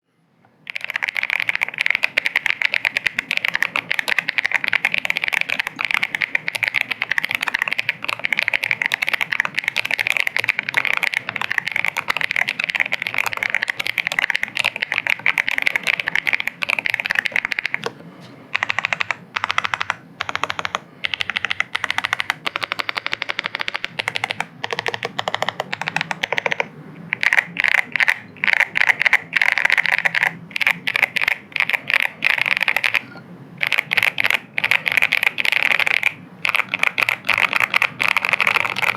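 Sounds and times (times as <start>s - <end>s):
typing on mechanical keyboard: 0.7s - 17.9s, 18.6s - 38.9s.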